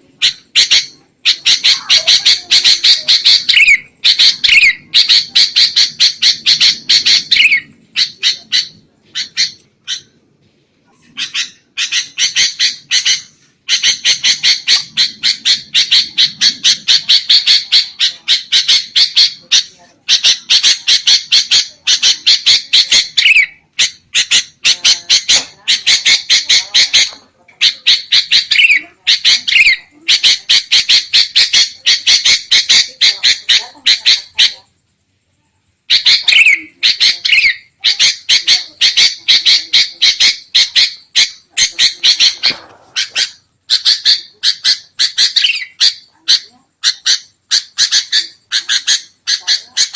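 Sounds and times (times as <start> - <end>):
bulbuls harsh chattering calls: 0.0 - 10.2, 11.0 - 34.7, 35.9 - 49.9.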